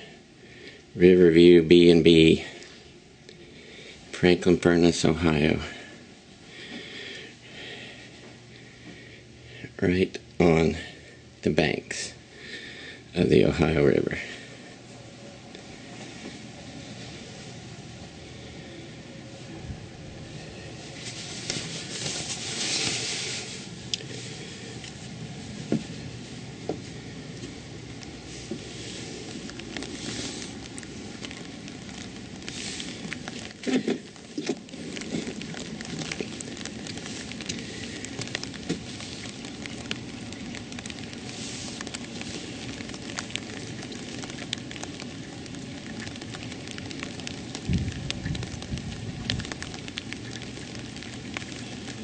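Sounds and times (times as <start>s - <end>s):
light rain falling: 0.0s - 52.0s
low rumbling buffeting microphone: 0.0s - 52.0s
sharp ticks of raindrops: 0.0s - 52.0s
steady outdoor hiss: 0.0s - 52.0s.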